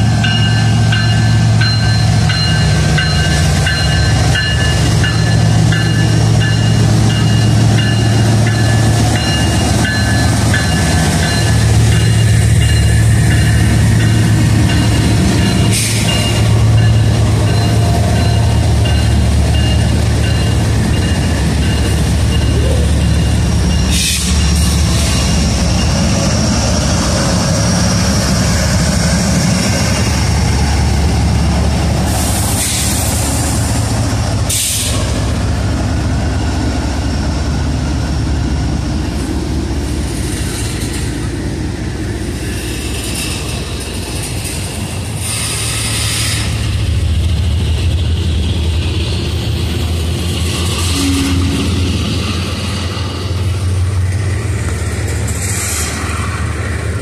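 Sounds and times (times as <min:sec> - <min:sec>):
diesel locomotive engine: 0:00.0 - 0:57.0
train wheels rumbling on rails: 0:00.0 - 0:57.0.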